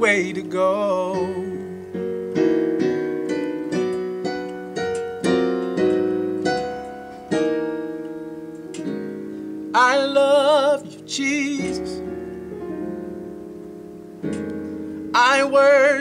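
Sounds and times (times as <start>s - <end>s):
electronic keyboard piano chords: 0.0s - 16.0s.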